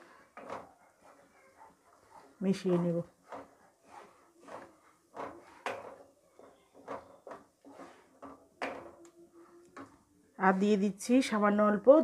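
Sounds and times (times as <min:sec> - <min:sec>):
wooden spatula scraping a pan: 0:00.0 - 0:12.0.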